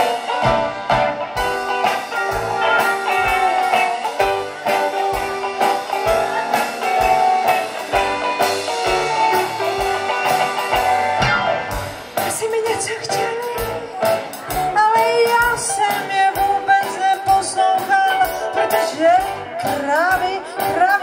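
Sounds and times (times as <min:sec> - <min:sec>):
bass guitar: 0:00.0 - 0:21.0
drum kit beat: 0:00.0 - 0:21.0
guitar: 0:00.0 - 0:21.0.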